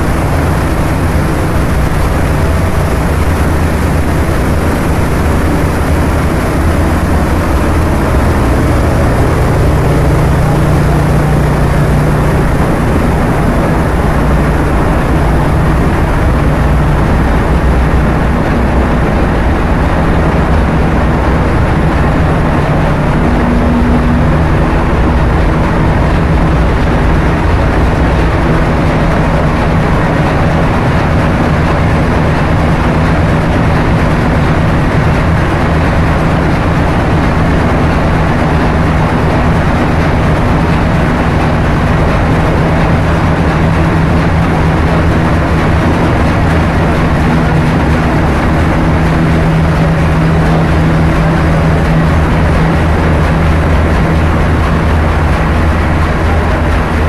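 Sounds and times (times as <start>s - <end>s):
engine room machinery drone: 0.0s - 57.0s.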